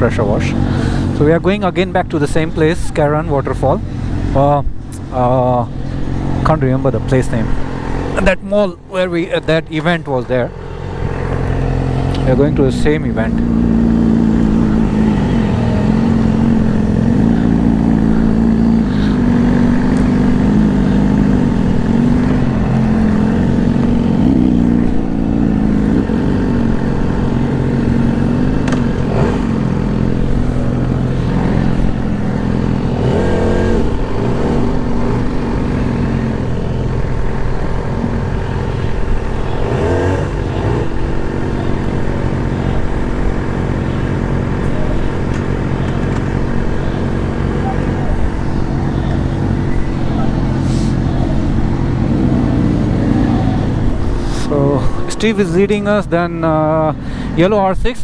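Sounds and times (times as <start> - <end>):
another engine: 0.0 - 58.0
motorcycle engine running: 0.0 - 58.0.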